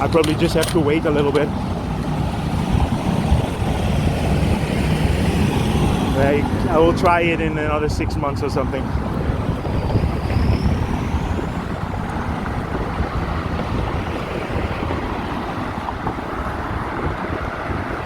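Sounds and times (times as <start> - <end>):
road traffic of cars and trucks: 0.0 - 18.0
wind buffeting microphone: 0.0 - 18.0.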